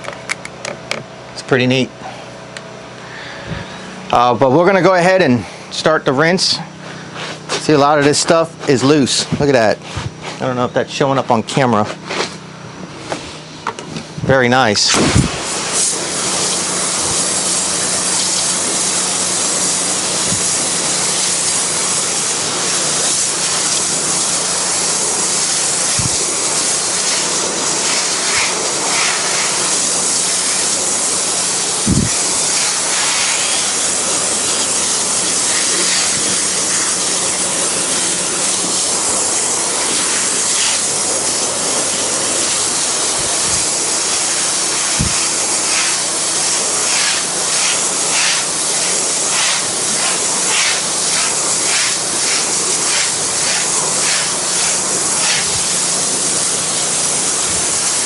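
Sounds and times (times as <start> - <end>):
pressure washer spraying wood: 2.2 - 10.8, 11.7 - 58.0.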